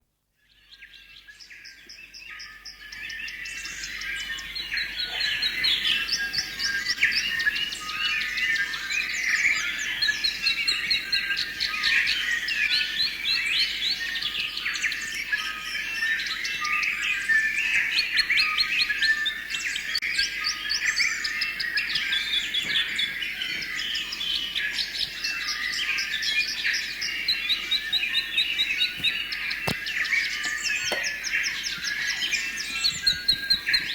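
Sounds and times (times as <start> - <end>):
many birds singing: 0.4 - 33.9.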